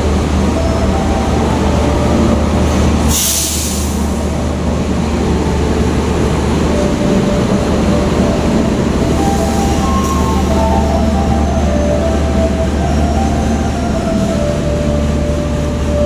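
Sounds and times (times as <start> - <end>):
train rumbling: 0.0 - 16.0
air hissing: 1.4 - 16.0.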